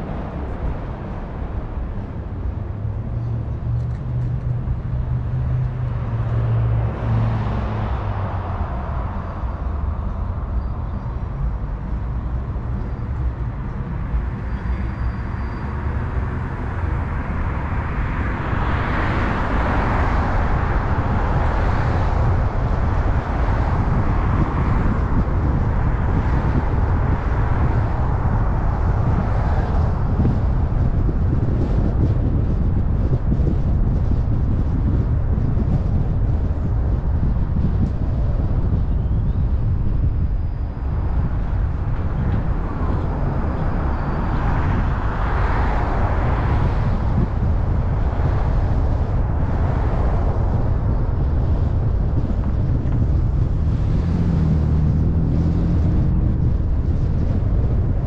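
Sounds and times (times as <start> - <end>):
car engine rumble: 0.0 - 58.0
road and tyre noise: 0.0 - 58.0.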